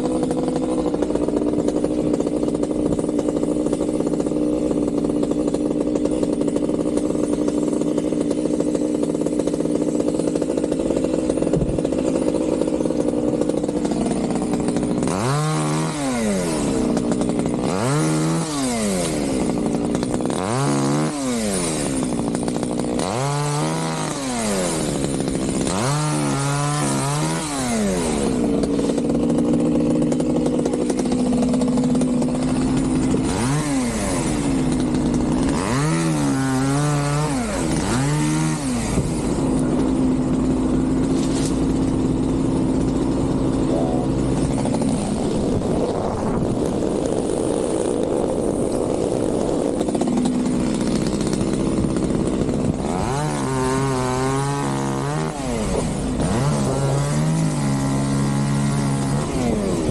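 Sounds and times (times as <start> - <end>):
chainsaw revving cutting wood: 0.0 - 59.9
engine running: 0.0 - 59.9.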